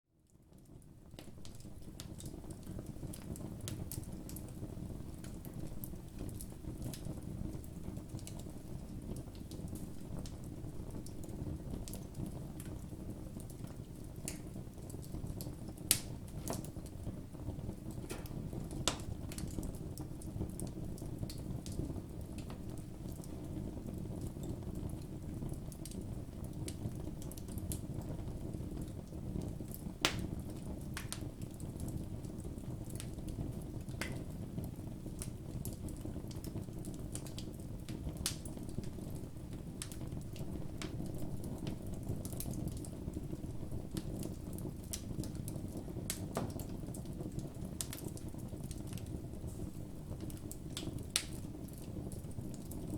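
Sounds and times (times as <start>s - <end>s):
burning wood crackling and popping: 0.3s - 52.9s
campfire flames rushing: 1.4s - 52.9s.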